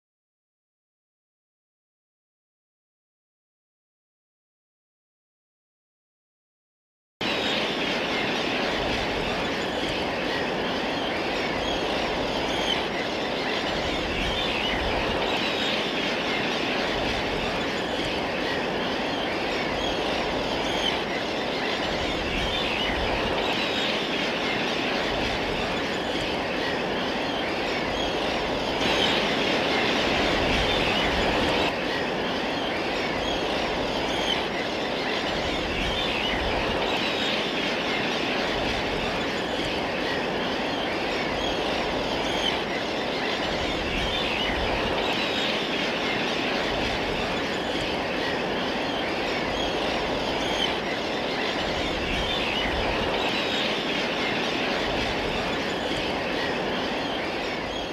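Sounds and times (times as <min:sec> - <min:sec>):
flock of shorebirds calling: 0:07.2 - 0:57.9
surf rumble: 0:07.2 - 0:57.9.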